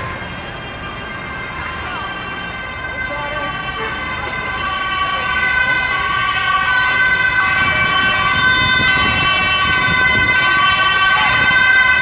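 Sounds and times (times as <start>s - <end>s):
emergency vehicle siren: 0.0s - 12.0s.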